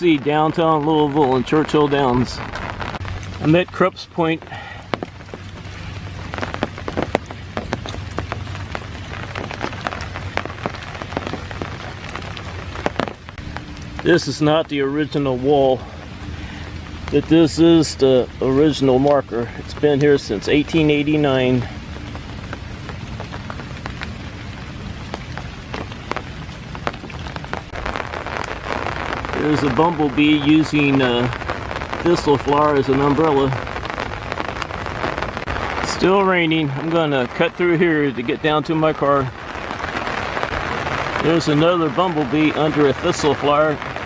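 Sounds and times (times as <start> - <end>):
sharp ticks of raindrops: 0.0 - 44.0
steady rain falling: 0.0 - 44.0.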